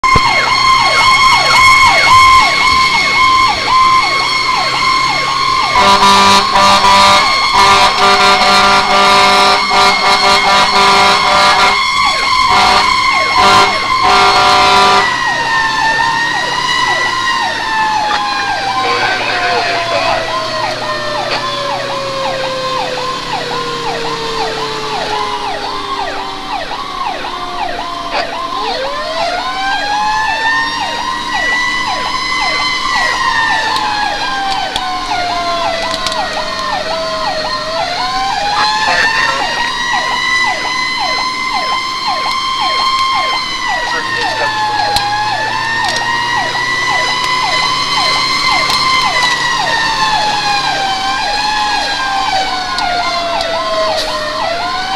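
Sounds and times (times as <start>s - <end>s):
fast electronic siren yelp: 0.0s - 54.9s
siren rising and falling: 0.0s - 54.9s
truck engine droning: 0.0s - 54.9s.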